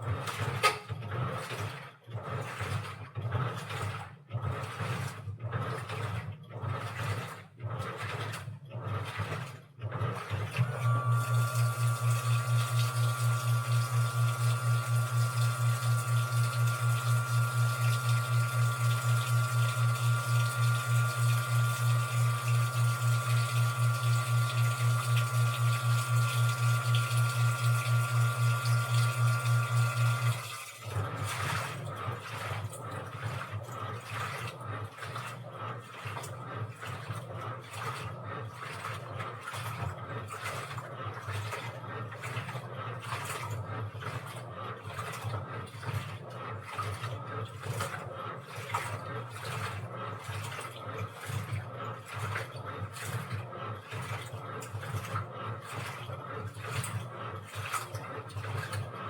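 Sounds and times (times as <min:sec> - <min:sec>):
washing machine water running: 0:00.0 - 0:59.0.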